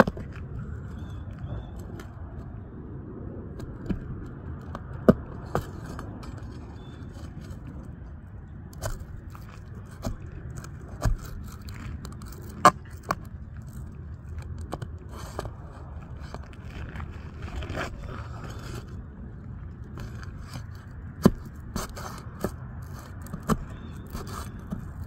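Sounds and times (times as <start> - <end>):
steady low rumble: 0.0 - 25.0
scraping on roof shingles: 3.6 - 25.0.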